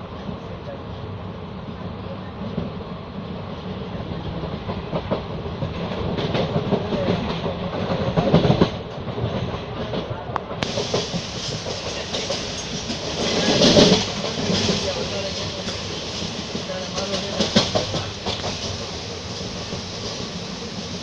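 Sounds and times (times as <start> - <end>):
train wheels running on rails: 0.0 - 21.0.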